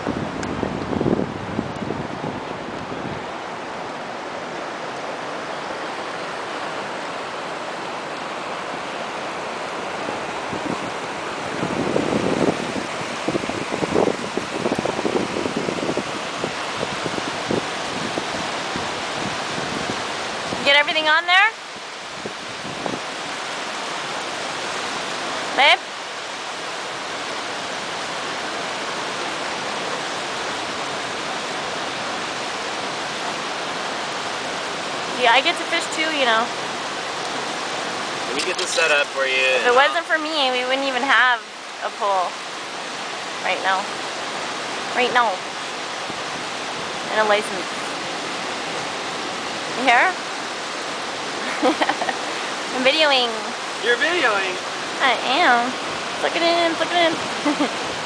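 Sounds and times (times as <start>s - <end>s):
river water rushing over rocks: 0.0s - 58.0s
wind buffeting microphone: 0.0s - 58.0s.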